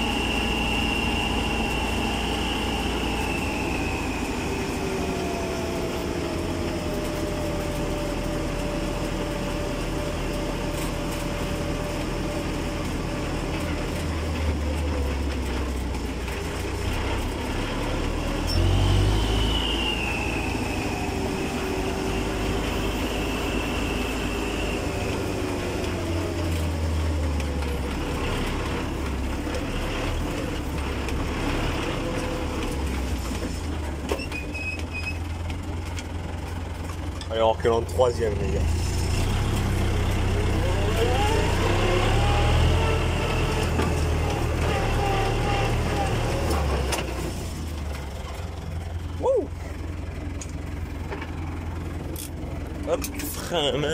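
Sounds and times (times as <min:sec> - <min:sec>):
old tractor engine rumbling: 0:00.0 - 0:53.9
steady gear whine: 0:00.0 - 0:53.9.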